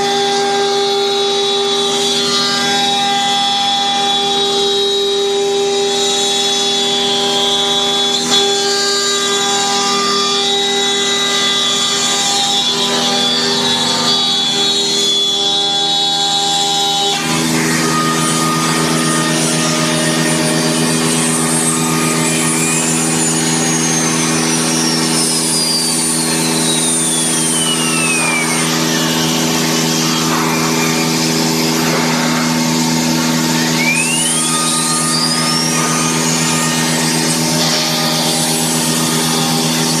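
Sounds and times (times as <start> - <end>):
mechanical hum: 0.0 - 40.0
router spindle whine: 0.0 - 40.0.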